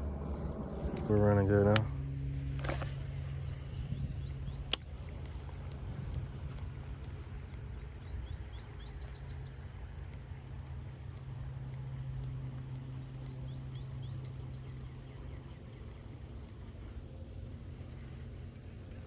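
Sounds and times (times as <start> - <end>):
low hum outdoors: 0.0 - 19.0
thin high whine: 0.0 - 19.0.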